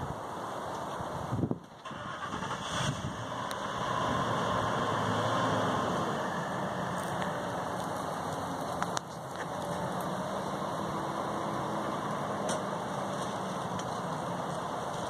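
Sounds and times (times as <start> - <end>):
car engine idling: 1.8 - 15.0.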